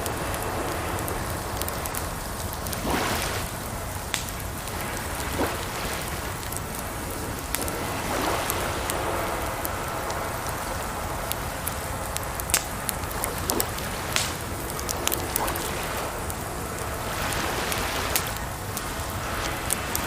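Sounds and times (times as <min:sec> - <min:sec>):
campfire crackling and popping: 0:00.0 - 0:20.0
flowing water: 0:00.0 - 0:20.0.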